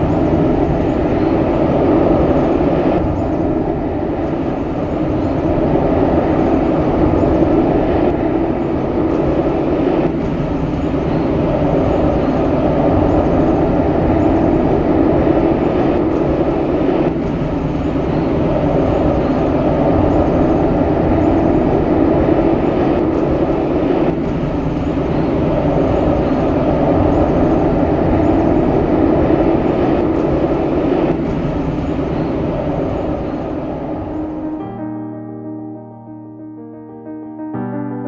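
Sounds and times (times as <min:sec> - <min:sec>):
turboprop engines droning: 0:00.0 - 0:35.1.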